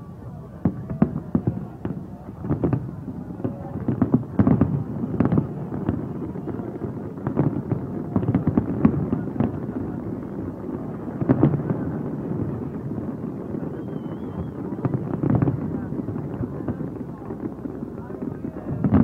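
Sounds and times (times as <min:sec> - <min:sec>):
firework bursts and crackles: 0:00.0 - 0:19.0
loud firework booms: 0:00.6 - 0:19.0.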